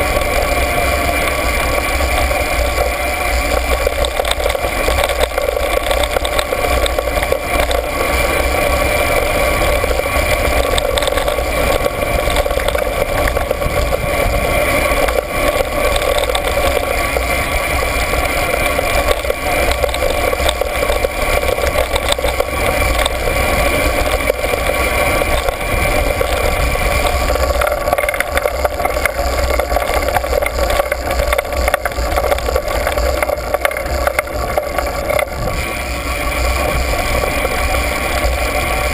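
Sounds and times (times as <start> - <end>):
mechanical drone: 0.0 - 38.9
rattling over bumps: 0.0 - 38.9
wind rumbling on microphone: 0.0 - 38.9.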